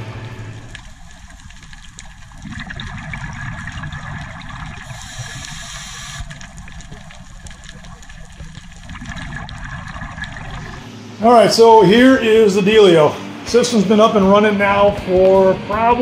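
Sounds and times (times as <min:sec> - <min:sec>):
water rushing: 0:00.0 - 0:14.6.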